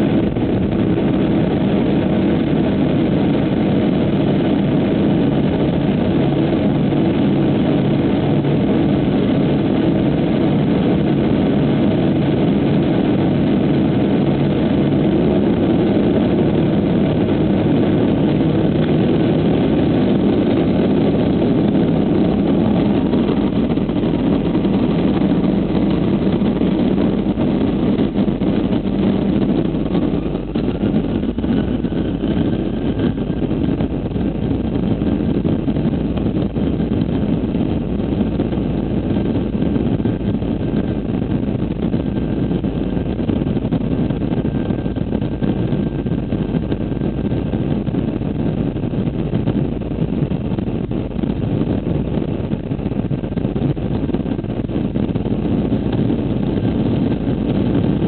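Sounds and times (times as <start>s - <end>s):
jet engine and rolling rush: 0.0s - 58.0s.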